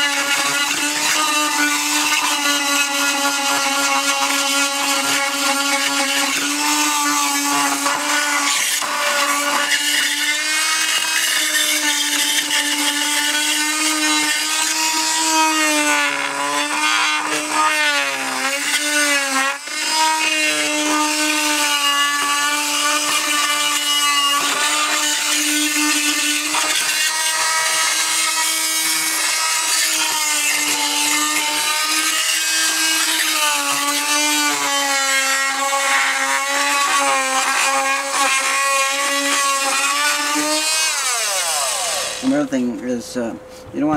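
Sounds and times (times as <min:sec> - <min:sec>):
oscillating multi-tool buzzing: 0:00.0 - 0:42.5.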